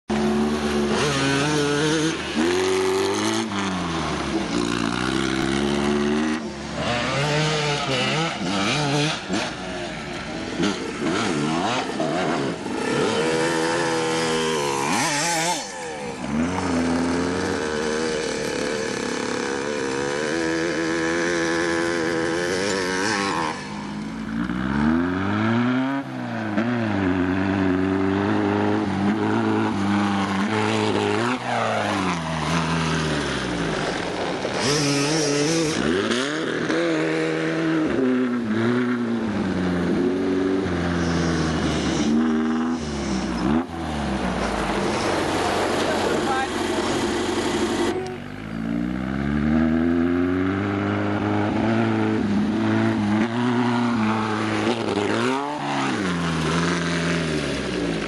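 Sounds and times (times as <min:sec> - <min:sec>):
dune buggy engine revving: 0:00.1 - 0:58.0.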